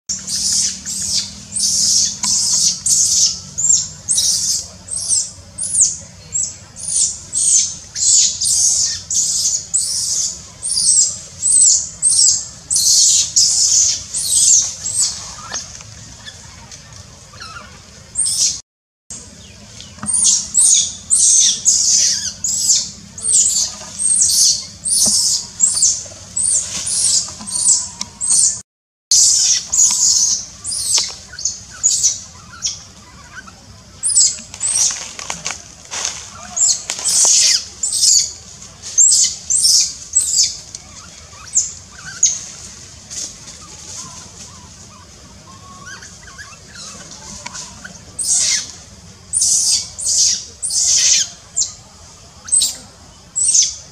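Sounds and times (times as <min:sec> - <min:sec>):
baby monkey screaming: 0:00.3 - 0:16.4, 0:17.3 - 0:18.6, 0:20.1 - 0:28.6, 0:29.2 - 0:34.9, 0:36.3 - 0:38.3, 0:39.0 - 0:42.5, 0:43.7 - 0:48.7, 0:49.3 - 0:51.7.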